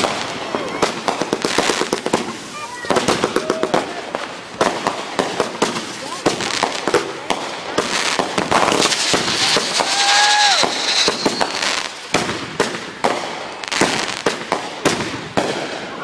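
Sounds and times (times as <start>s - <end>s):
fireworks launching and banging: 0.0s - 16.0s.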